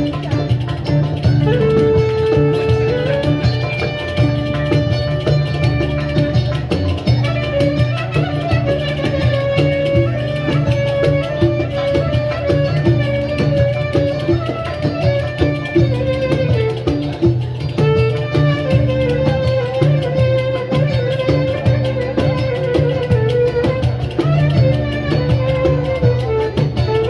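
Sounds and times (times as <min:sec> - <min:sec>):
bowed string melody: 0:00.0 - 0:27.0
plucked strings: 0:00.0 - 0:27.0.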